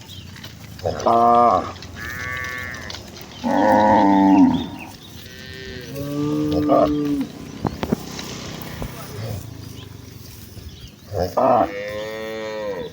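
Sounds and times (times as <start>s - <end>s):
cattle mooing: 0.4s - 12.9s.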